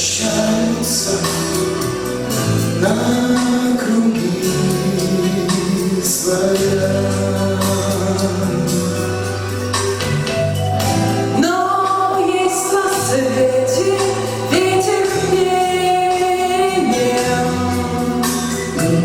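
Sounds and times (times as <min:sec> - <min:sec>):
song with held sung notes: 0:00.0 - 0:19.0.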